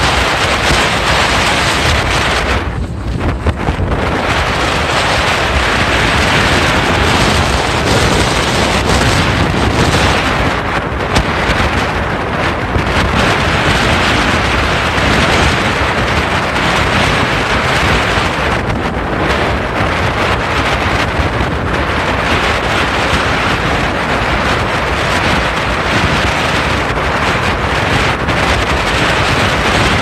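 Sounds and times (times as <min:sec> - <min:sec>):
boat motor drone: 0:00.0 - 0:30.0
water rushing along hull: 0:00.0 - 0:30.0
wind buffeting microphone: 0:00.0 - 0:30.0.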